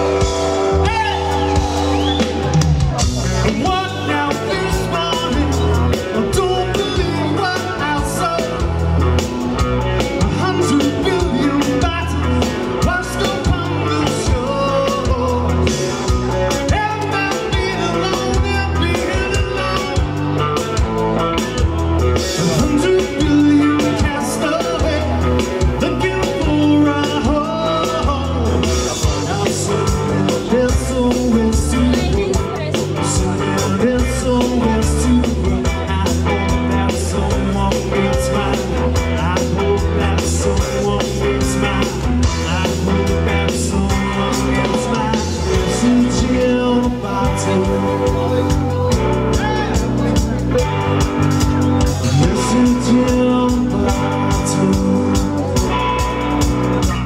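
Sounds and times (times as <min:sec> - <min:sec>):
bass guitar: 0:00.0 - 0:57.0
drum kit beat: 0:00.0 - 0:57.0
electric guitar: 0:00.0 - 0:57.0
man singing lead: 0:00.0 - 0:57.0.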